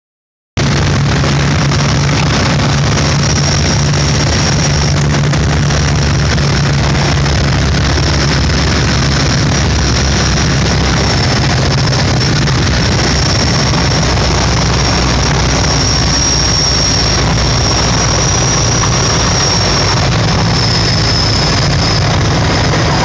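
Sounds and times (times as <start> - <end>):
aircraft piston engine drone: 0.6 - 23.0
rushing air: 0.6 - 23.0.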